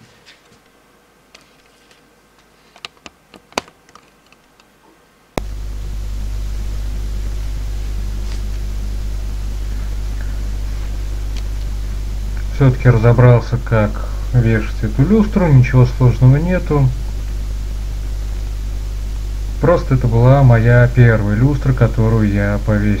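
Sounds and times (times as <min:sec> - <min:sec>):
electrical hum with hiss: 0:00.0 - 0:23.0.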